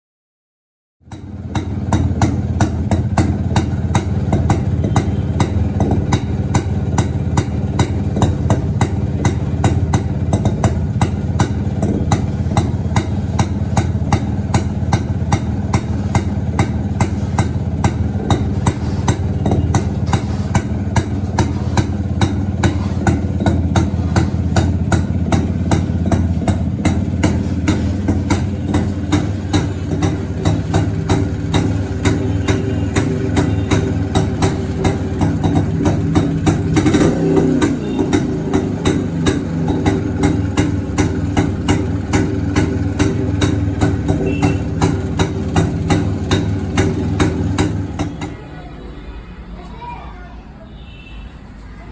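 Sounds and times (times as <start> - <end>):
two-stroke motorcycle engine idling: 1.0 - 49.2.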